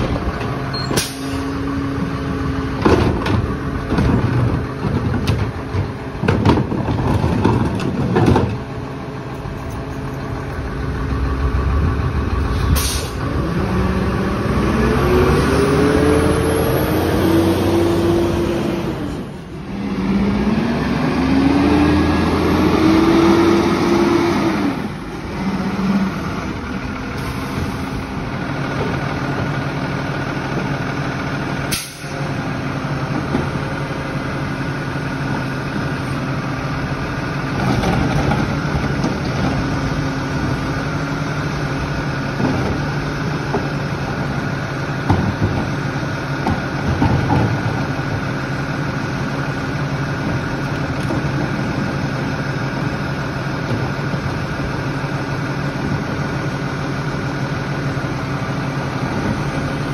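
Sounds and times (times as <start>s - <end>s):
garbage truck engine idling: 0.0s - 14.8s, 24.9s - 59.9s.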